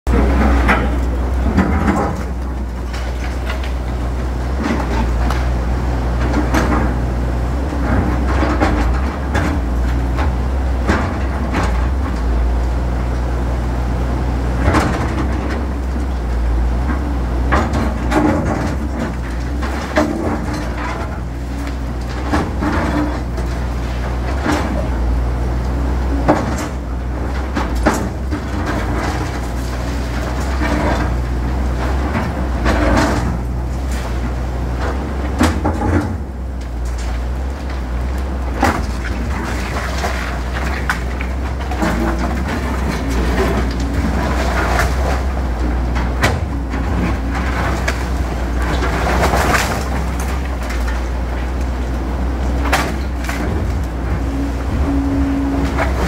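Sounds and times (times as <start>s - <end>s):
excavator diesel engine running: 0.1s - 56.0s
splintering timber and falling debris: 0.1s - 56.0s.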